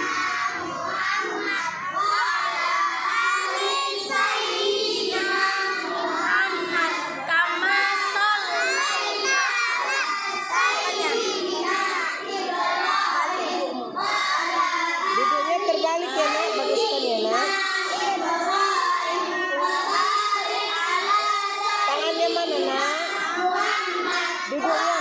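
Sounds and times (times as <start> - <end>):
children chanting together: 0.0 - 25.0.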